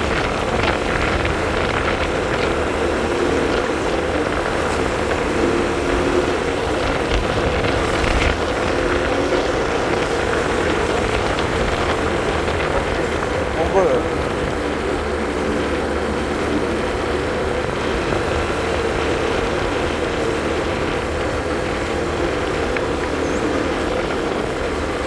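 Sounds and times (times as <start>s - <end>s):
motor scooter engine: 0.0s - 25.0s
wind on microphone: 0.0s - 25.0s.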